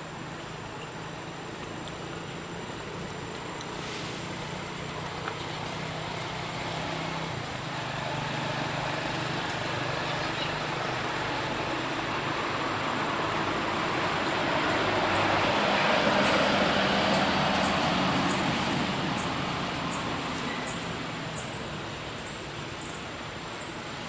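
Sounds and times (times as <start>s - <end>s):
vehicle engine hum and road noise: 0.0s - 24.0s.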